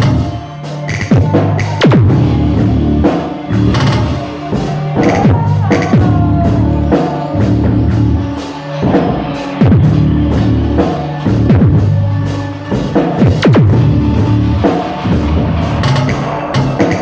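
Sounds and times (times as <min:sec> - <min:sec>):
cymbal strokes: 0:00.0 - 0:17.0
rock band playing: 0:00.0 - 0:17.0
low bass line: 0:01.1 - 0:17.0.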